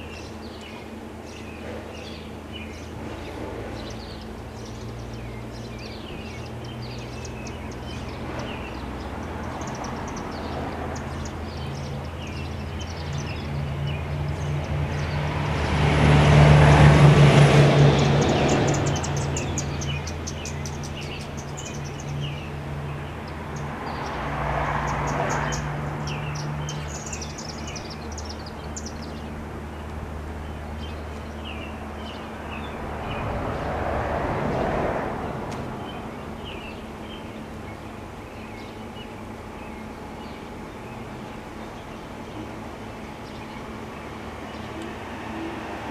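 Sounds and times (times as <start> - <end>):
birds chirping: 0.0 - 45.9
vehicles passing: 0.0 - 45.9.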